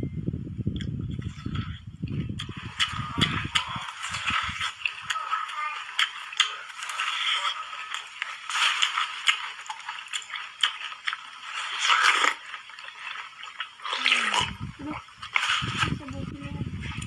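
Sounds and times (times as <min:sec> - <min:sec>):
ice crunching as it is chewed: 0:00.8 - 0:16.2.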